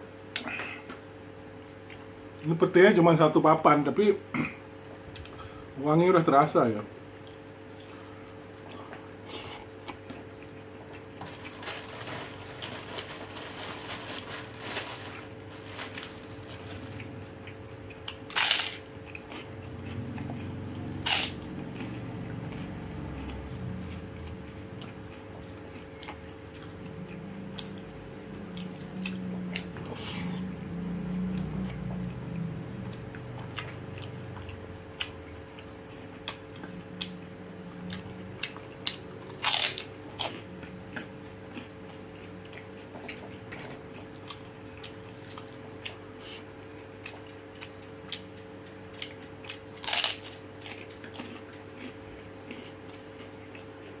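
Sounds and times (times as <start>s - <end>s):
faint hum: 0.0s - 54.0s
person chewing: 7.2s - 30.6s, 31.2s - 54.0s.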